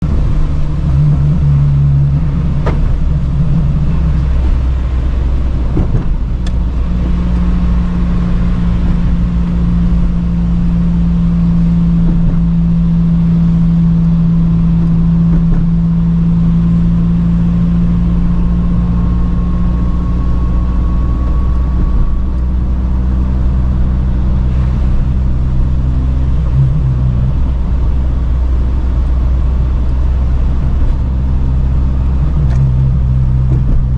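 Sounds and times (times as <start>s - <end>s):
car engine humming: 0.0s - 33.9s
road rumble: 0.0s - 33.9s.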